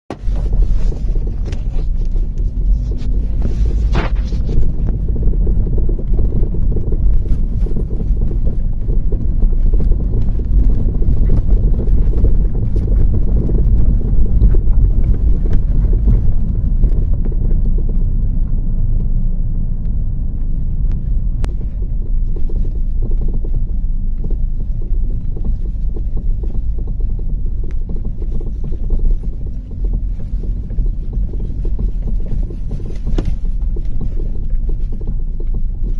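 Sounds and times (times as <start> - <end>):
road noise rumble: 0.0 - 35.9
suspension knocking: 0.1 - 35.9.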